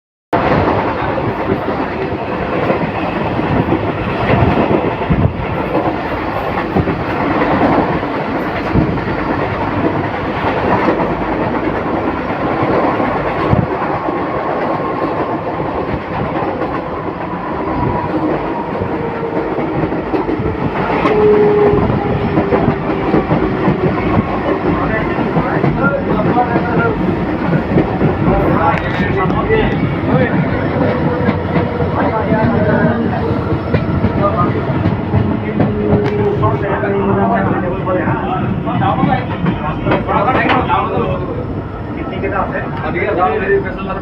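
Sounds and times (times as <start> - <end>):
train wheels clacking: 0.4 - 41.2
train rumbling along track: 0.4 - 44.0.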